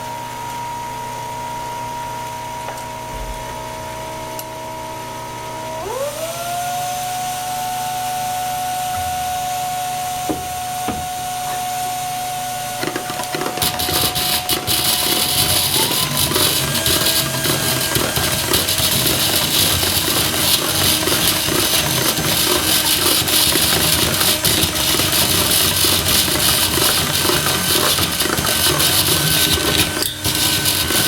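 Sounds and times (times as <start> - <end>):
small electric motor whining: 5.6 - 31.0.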